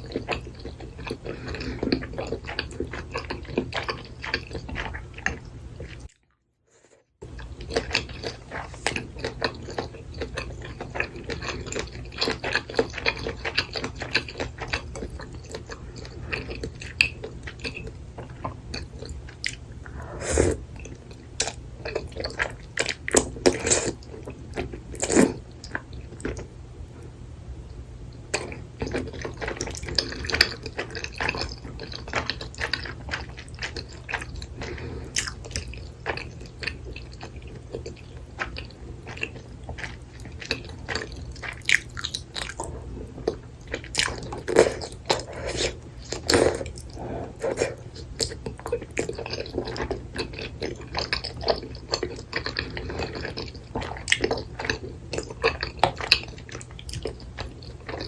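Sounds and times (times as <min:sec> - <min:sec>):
person chewing food: 0:00.0 - 0:26.5, 0:28.3 - 0:58.0.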